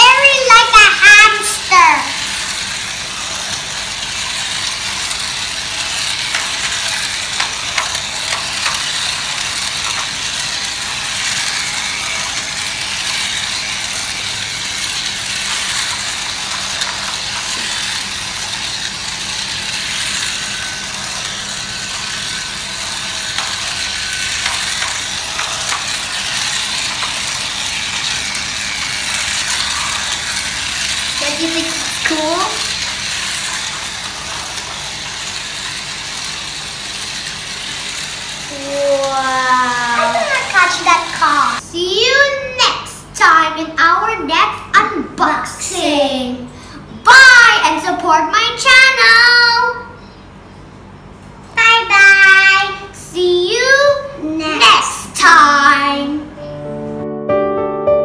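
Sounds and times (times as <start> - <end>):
toy train motor whirring: 0.0 - 50.4, 51.4 - 56.4.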